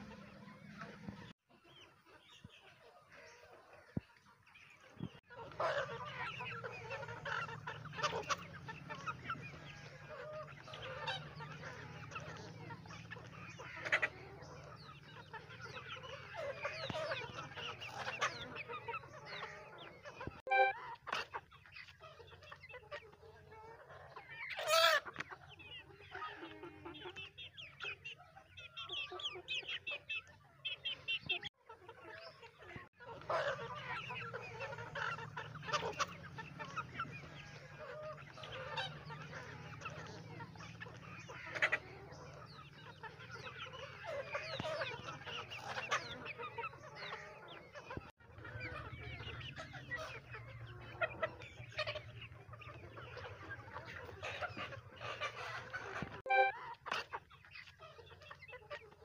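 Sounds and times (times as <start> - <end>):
chickens clucking and calling: 0.0 - 59.0.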